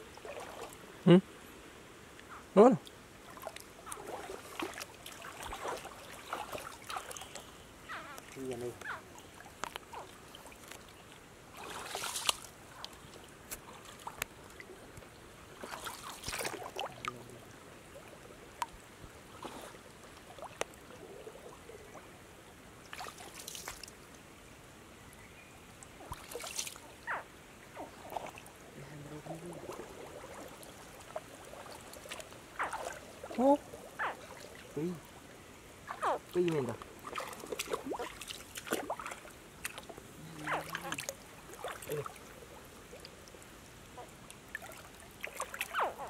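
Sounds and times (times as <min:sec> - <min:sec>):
stream trickling: 0:00.0 - 0:46.0.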